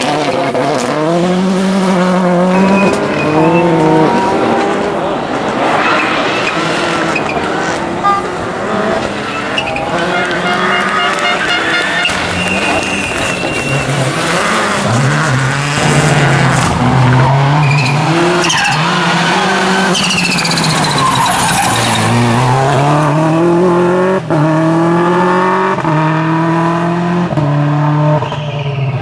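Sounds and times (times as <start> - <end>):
rally car engine driven hard: 0.0 - 29.0.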